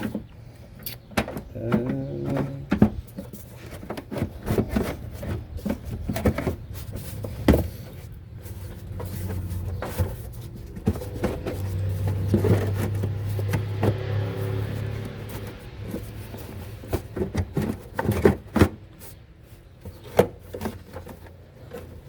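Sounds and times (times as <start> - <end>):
plastic parts clicking and knocking: 0.0 - 22.0.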